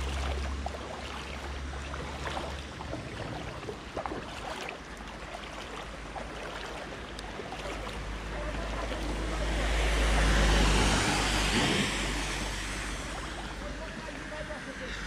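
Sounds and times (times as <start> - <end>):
footsteps splashing through water: 0.0 - 14.4.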